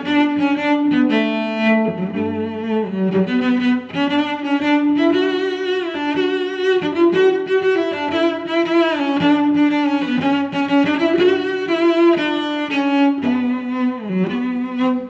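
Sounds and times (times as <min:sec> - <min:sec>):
bowed string melody: 0:00.0 - 0:15.0.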